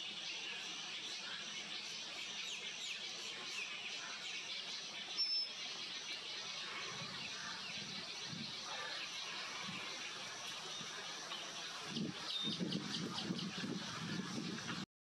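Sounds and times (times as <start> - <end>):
songbirds chirping: 0.0 - 14.8.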